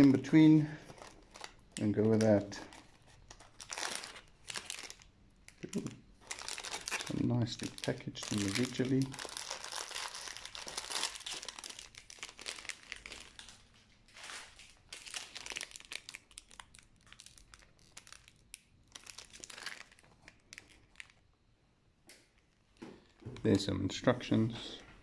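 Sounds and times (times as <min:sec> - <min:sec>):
plastic bags crinkling: 0:00.0 - 0:21.3.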